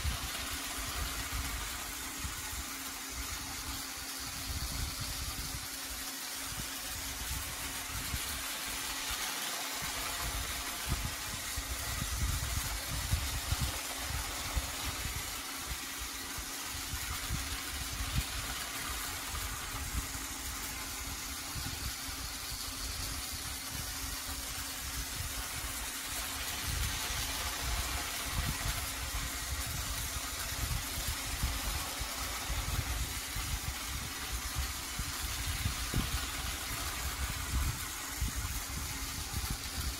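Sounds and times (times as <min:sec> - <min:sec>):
toy train motor hum: 0:00.0 - 0:39.9.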